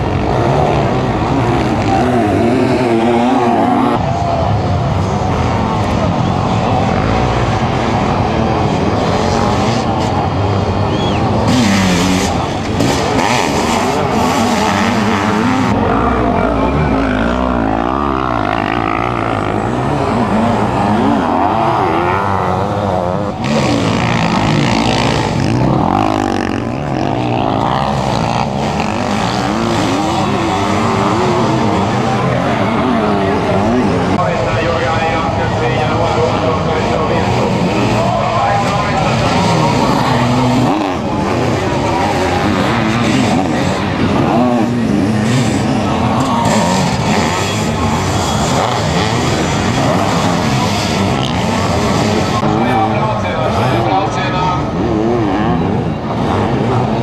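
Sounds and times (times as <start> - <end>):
motorcycle engines racing: 0.0 - 57.0.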